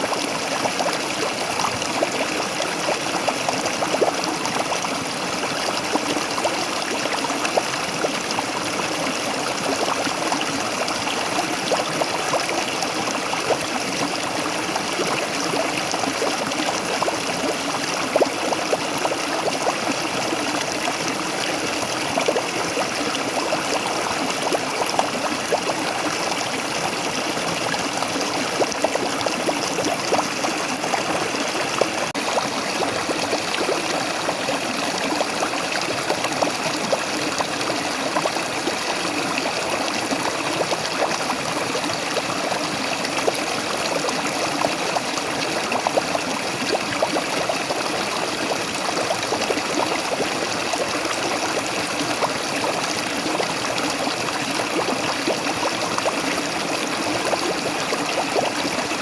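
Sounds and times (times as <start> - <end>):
waterfall and stream splashing: 0.0 - 59.0.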